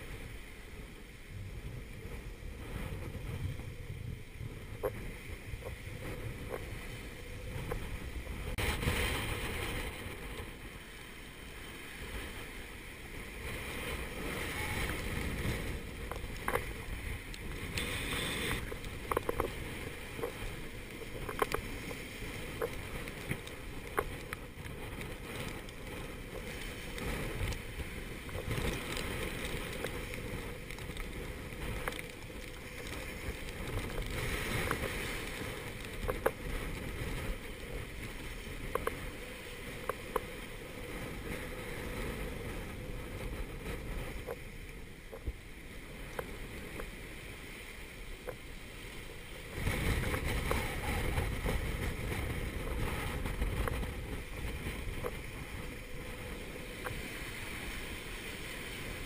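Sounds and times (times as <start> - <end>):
wind rumbling on microphone: 0.0 - 59.0
breaking seas rushing: 1.7 - 59.0.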